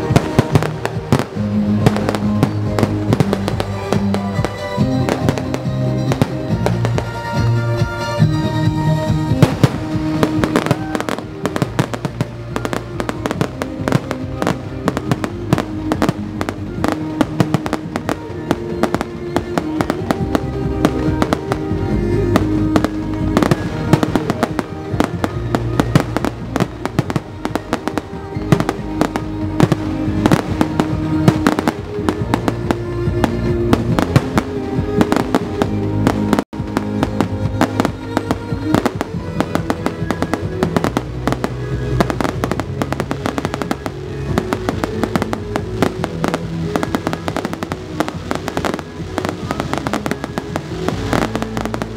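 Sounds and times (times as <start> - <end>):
fireworks bursting: 0.0 - 51.9
music playing: 0.0 - 51.9.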